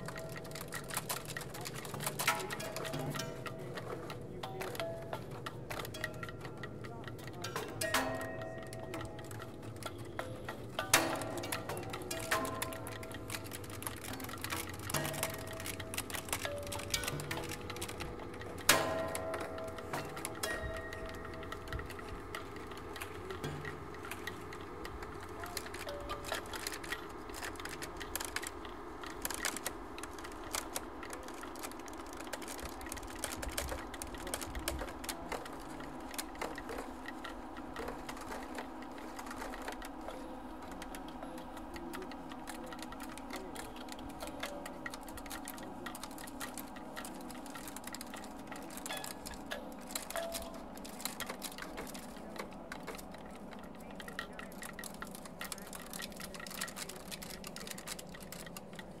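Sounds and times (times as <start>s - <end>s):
rapid electronic clicks and ticks: 0.0s - 59.0s.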